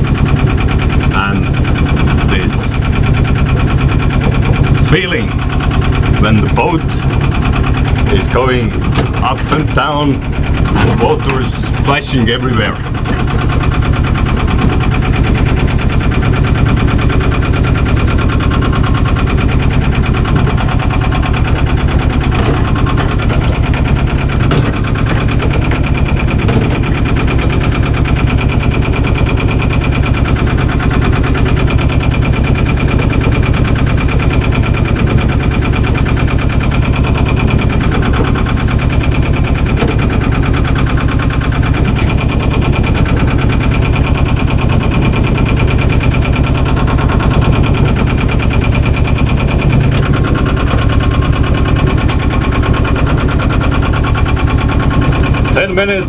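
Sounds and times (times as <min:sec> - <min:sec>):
boat engine puttering: 0:00.0 - 0:56.0.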